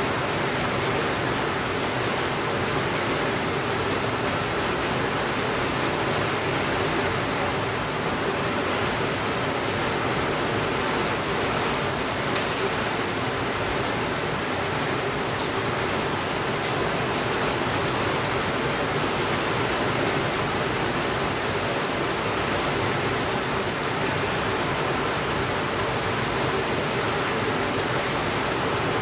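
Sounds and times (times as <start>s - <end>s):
steady rainfall: 0.0s - 29.0s.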